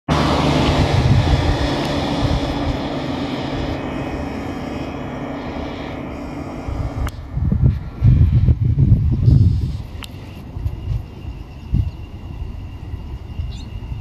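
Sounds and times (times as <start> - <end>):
engine drone with low hum: 0.1 - 14.0.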